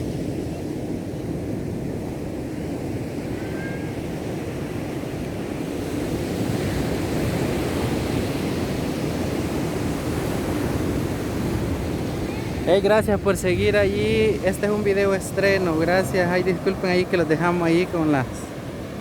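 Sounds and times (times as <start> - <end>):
ocean surf washing on beach: 0.0 - 19.0.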